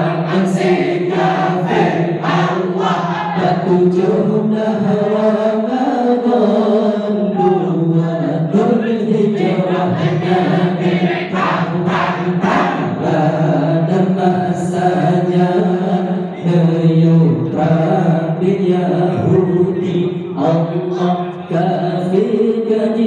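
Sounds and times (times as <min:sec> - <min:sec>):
men chanting in unison: 0:00.0 - 0:23.0.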